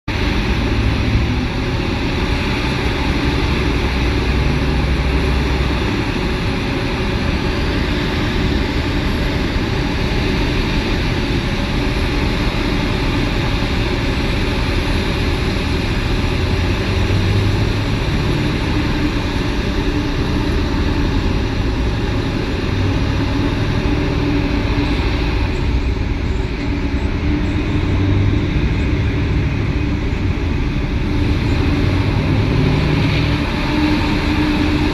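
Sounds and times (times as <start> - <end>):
heavy diesel machinery droning: 0.0 - 34.9.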